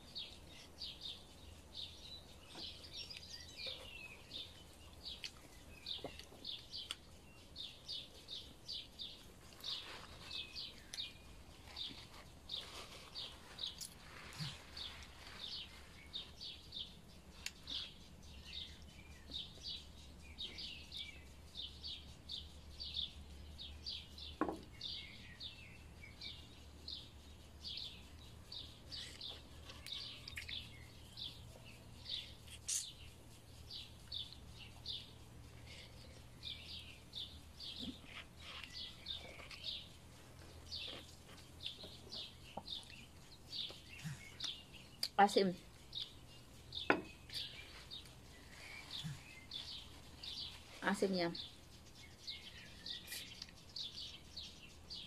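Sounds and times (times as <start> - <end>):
small bird chirping: 0.0 - 55.0.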